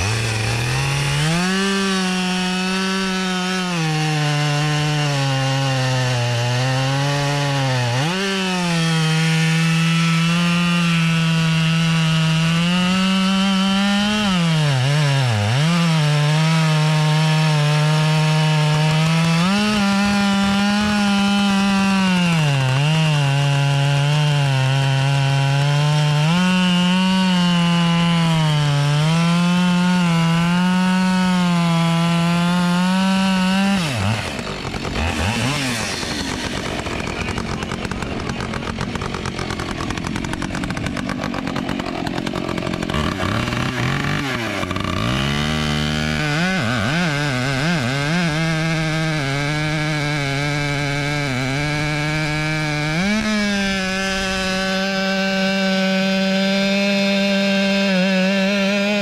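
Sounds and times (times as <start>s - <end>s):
chainsaw cutting through a log: 0.0s - 59.0s.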